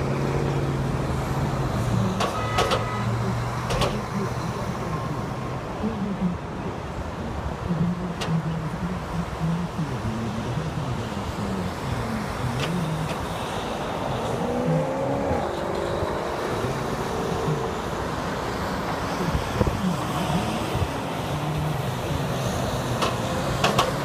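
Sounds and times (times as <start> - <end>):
cars and trucks passing: 0.0 - 24.0.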